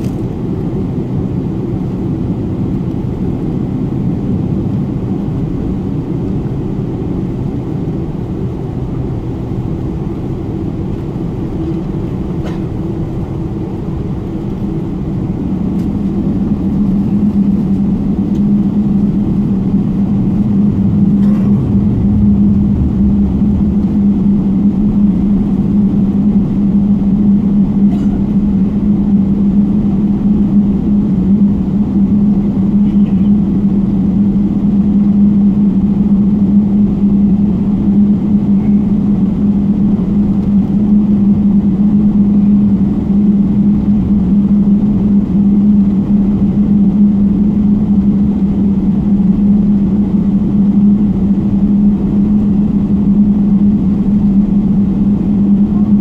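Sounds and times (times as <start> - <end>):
airplane cabin drone: 0.0 - 56.0
constant low hum: 0.0 - 56.0.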